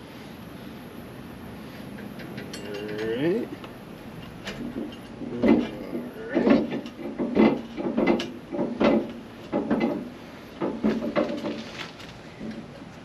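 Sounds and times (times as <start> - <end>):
car lift creaking and clunking: 1.9 - 13.0.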